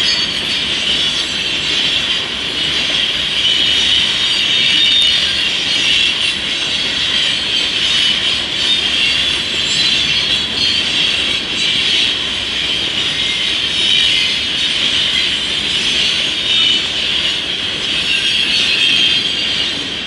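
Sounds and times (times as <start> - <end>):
freight train wheels rumbling: 0.0 - 20.0
high-pitched wheel squeal: 0.0 - 20.0.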